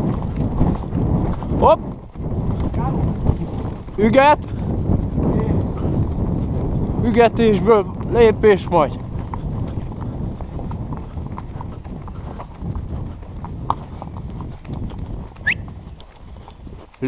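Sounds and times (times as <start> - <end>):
horse hooves trotting on dirt: 0.0 - 17.0
low rumble of movement: 0.0 - 17.0.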